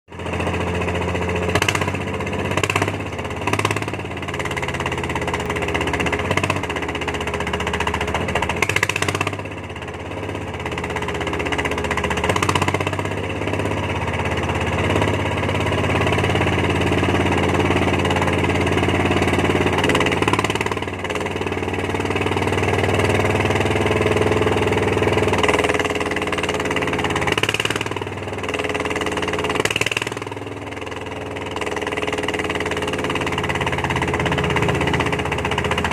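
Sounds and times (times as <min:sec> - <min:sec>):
engine running: 0:00.1 - 0:35.9.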